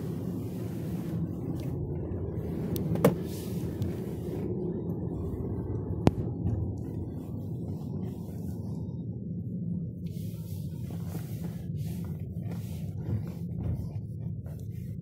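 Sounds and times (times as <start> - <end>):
tyre and road noise in car: 0.0 - 15.0.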